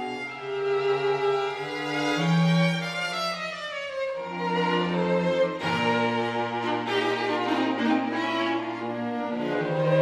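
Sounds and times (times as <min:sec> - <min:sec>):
slow bowed strings: 0:00.0 - 0:10.0.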